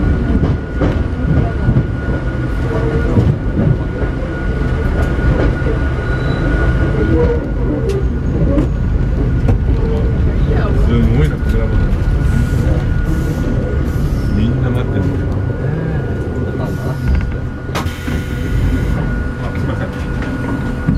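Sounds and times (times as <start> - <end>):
train wheels rumbling: 0.0 - 20.9.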